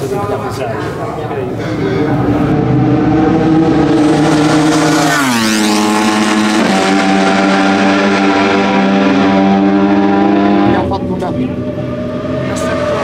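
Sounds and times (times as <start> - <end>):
motorbike engine at high revs: 2.4 - 13.0.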